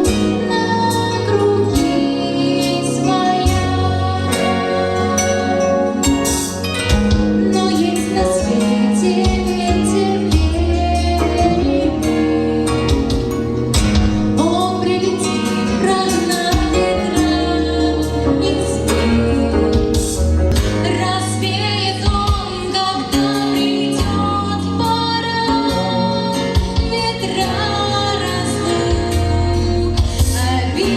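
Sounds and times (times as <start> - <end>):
girl singing: 0.0 - 5.6, 7.4 - 13.3, 14.4 - 19.6, 20.8 - 30.9
instrumental backing track: 0.0 - 30.9.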